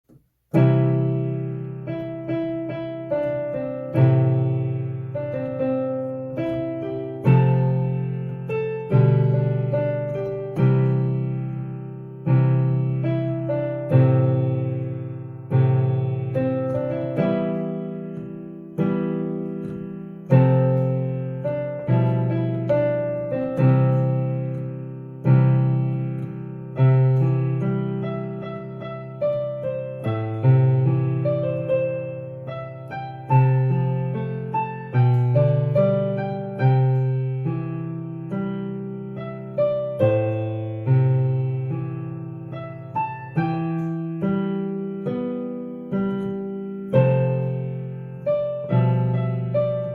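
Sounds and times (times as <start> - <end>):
piano block chords: 0.0 - 49.9.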